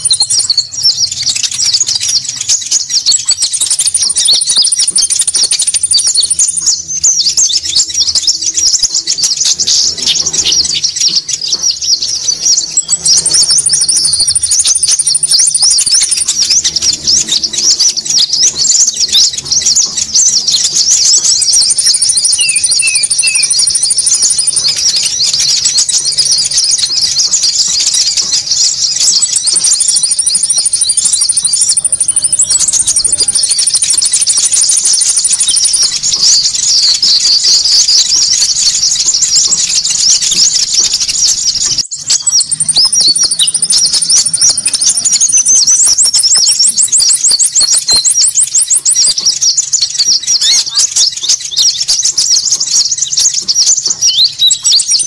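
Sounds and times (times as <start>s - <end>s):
birds chirping and twittering: 0.0s - 55.0s
fast high bird trill: 0.0s - 55.0s.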